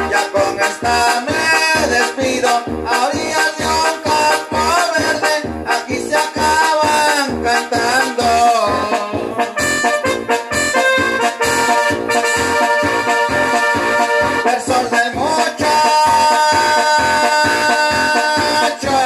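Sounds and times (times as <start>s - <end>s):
latin dance music on keyboards: 0.0s - 19.0s.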